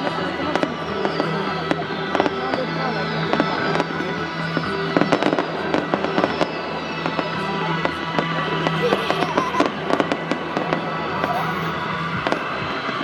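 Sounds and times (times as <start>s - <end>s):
fireworks bangs and crackles: 0.0s - 13.0s
music: 0.0s - 13.0s.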